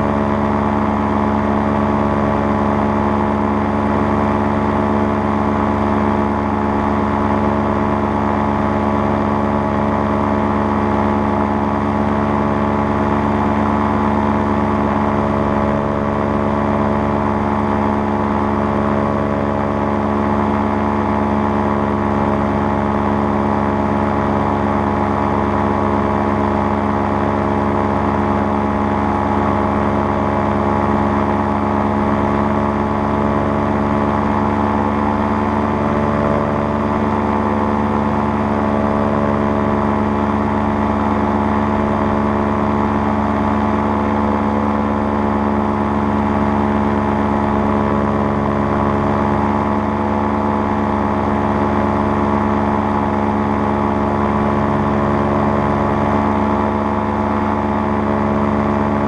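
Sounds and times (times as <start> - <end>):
paramotor engine and propeller drone: 0.0 - 59.0.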